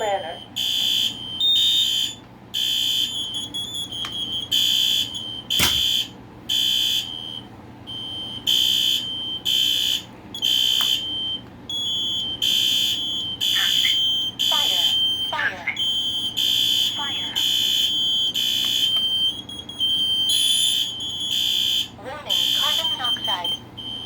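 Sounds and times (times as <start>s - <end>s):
smoke alarms beeping: 0.0s - 24.0s.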